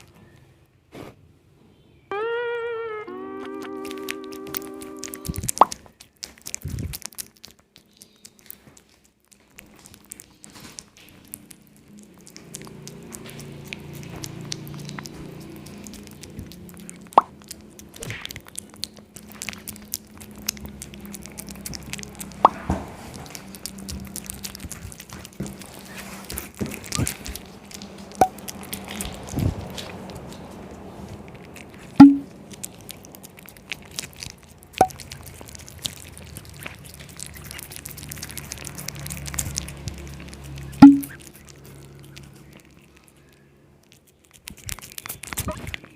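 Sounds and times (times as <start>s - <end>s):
low steady hum: 1.9s - 7.1s, 9.6s - 45.9s
cat eating with mouth clicks: 3.3s - 45.9s.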